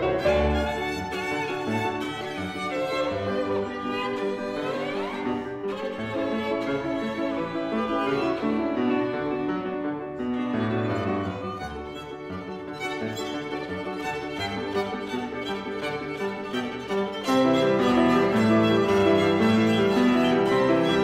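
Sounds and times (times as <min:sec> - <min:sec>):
bowed violin: 0:00.0 - 0:21.0
piano chords: 0:00.0 - 0:21.0.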